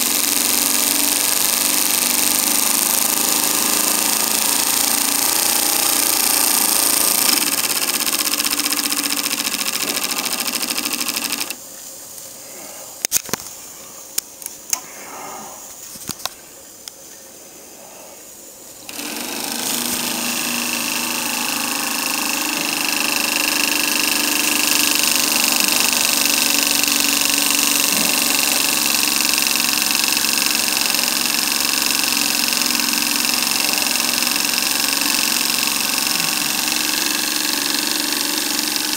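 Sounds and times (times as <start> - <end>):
model steam engine running: 0.0 - 11.6, 18.9 - 38.9.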